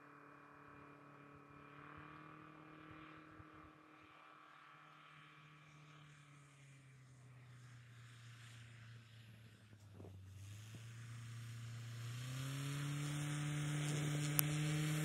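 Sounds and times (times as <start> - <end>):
distant propeller aircraft drone: 0.0 - 15.0.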